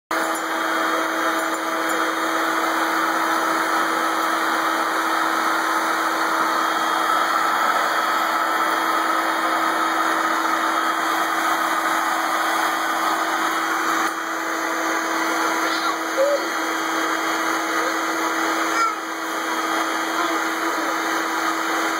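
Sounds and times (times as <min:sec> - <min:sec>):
vacuum cleaner running: 0:00.1 - 0:21.9.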